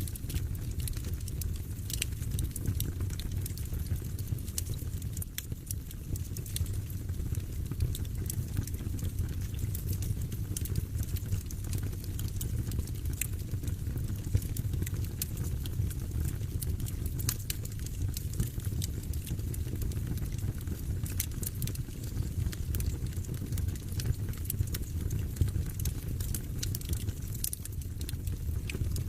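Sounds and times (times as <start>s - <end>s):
fire crackling and popping: 0.0s - 29.0s
fire low rumble: 0.0s - 29.0s.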